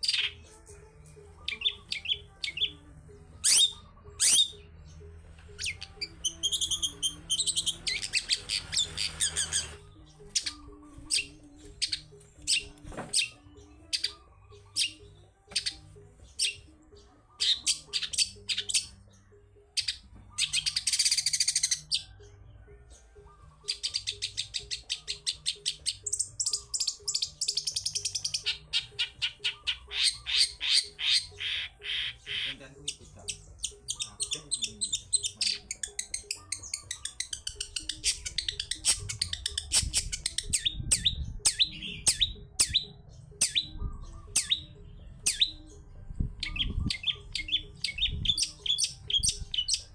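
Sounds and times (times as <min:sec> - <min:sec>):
bird singing sharp high calls: 0:01.4 - 0:02.8, 0:03.4 - 0:22.2, 0:23.2 - 0:49.9.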